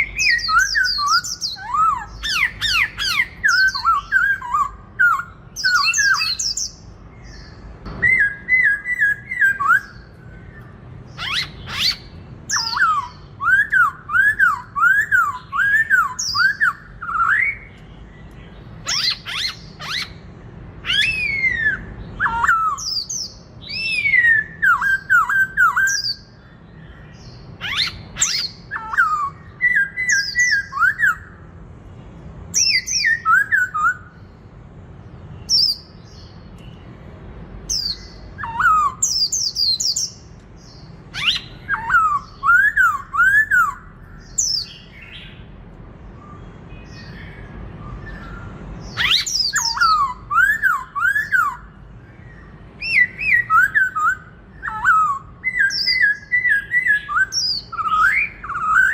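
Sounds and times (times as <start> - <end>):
bird singing whistled notes: 0.0 - 31.5, 32.5 - 34.4, 35.3 - 37.0, 37.7 - 45.5, 46.1 - 58.9.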